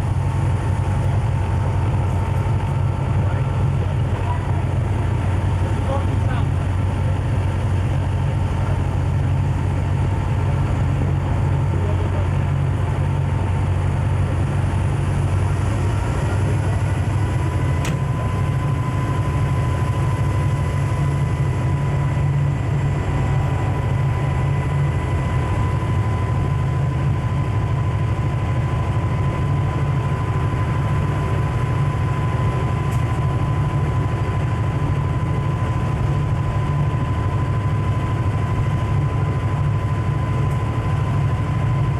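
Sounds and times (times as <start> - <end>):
diesel locomotive rumble: 0.0 - 41.9
thin steady whine: 0.0 - 41.9.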